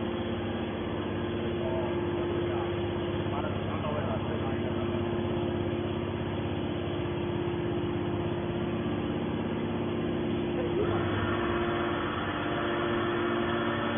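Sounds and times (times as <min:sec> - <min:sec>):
electric motor and pump humming: 0:00.0 - 0:13.9.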